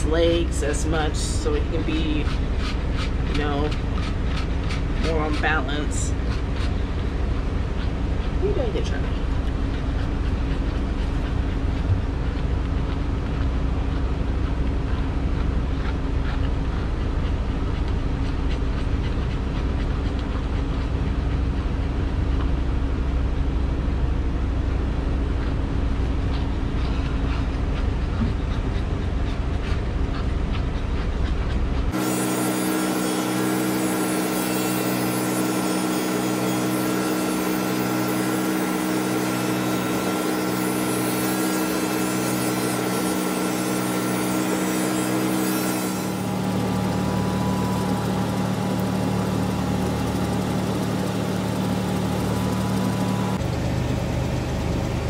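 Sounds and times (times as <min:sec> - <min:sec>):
electric pet clippers running: 0:00.0 - 0:21.4, 0:30.9 - 0:53.6
low mechanical rumble: 0:00.0 - 0:55.0.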